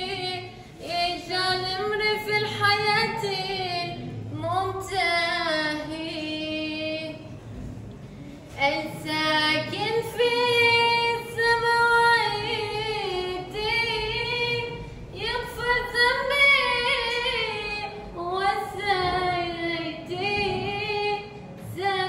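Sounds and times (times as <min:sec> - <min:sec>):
woman singing over loudspeaker: 0:00.0 - 0:07.4, 0:08.5 - 0:22.0.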